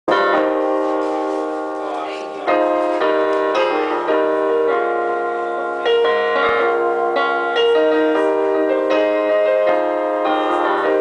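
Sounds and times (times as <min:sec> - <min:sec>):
keyboard piano chords: 0:00.1 - 0:11.0.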